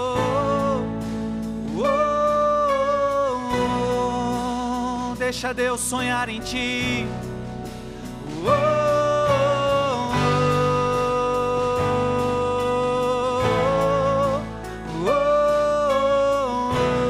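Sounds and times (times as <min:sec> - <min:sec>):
steady accompaniment: 0:00.0 - 0:17.0
worship song melody: 0:00.0 - 0:17.0.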